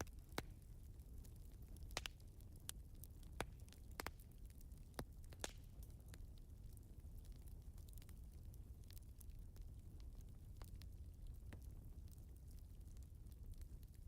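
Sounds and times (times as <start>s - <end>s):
faint low rumble: 0.0s - 14.0s
wood fire crackling: 0.0s - 14.0s.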